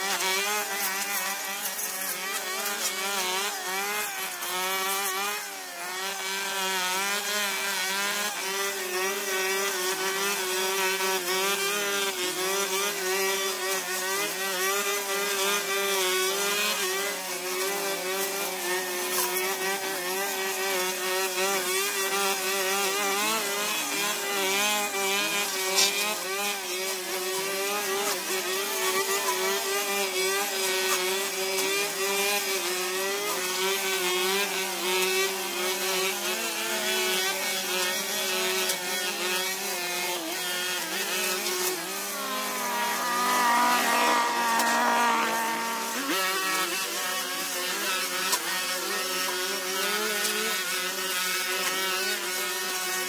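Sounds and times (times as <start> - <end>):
brush cutters cutting grass: 0.0 - 53.0.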